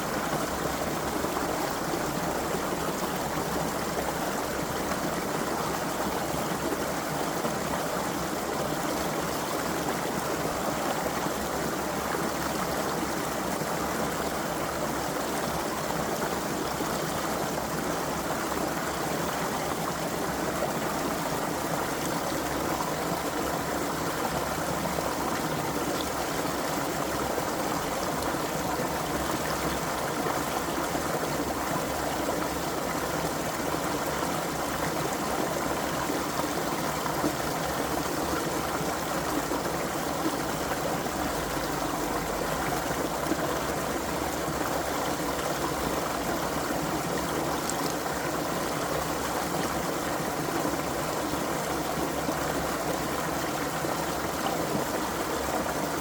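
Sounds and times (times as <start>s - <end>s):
creek flowing: 0.0s - 56.0s.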